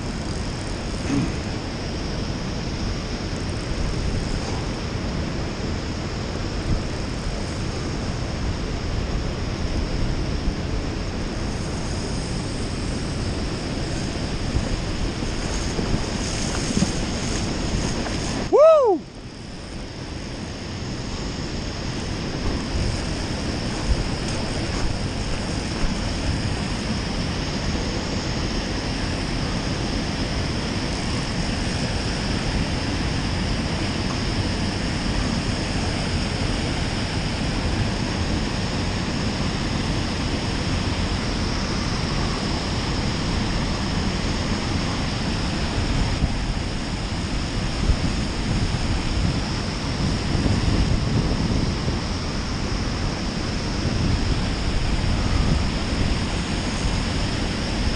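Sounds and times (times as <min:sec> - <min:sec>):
river water rushing over dam: 0:10.2 - 0:57.9.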